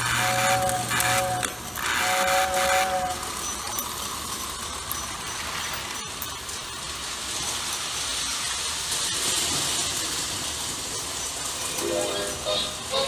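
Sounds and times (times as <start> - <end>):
toy train whirring and rattling: 0.0 - 13.0.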